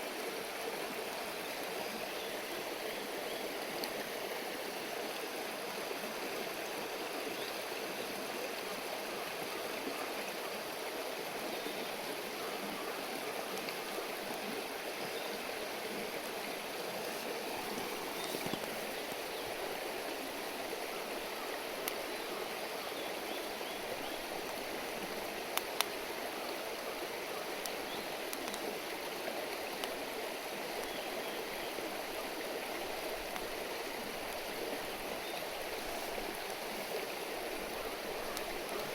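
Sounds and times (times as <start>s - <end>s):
stream babbling: 0.0s - 38.9s.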